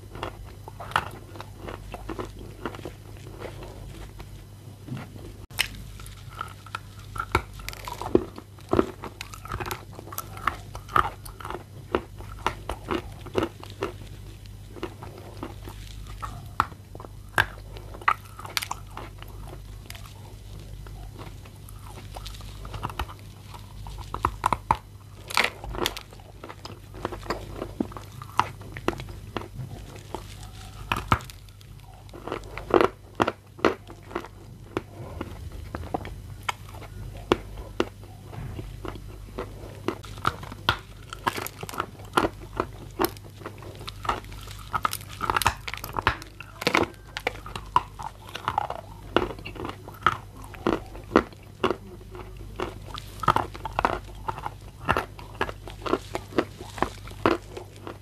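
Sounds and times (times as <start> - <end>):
clay crunching being chewed: 0.0 - 58.0.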